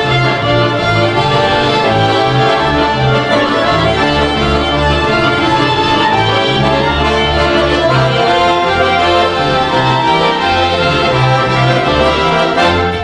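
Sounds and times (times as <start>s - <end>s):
accordions holding chords: 0.0s - 13.0s
bowed double bass: 0.0s - 13.0s.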